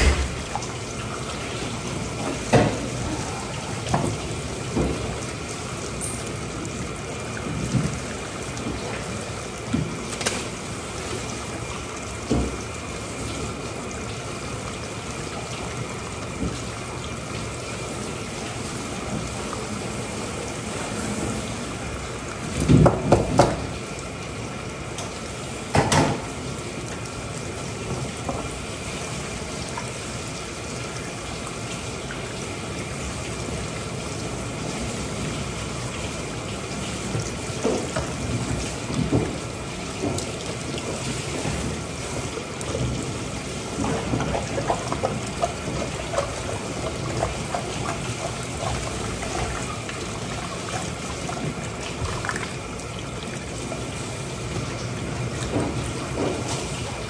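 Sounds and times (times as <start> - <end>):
water running from tap: 0.0 - 57.0.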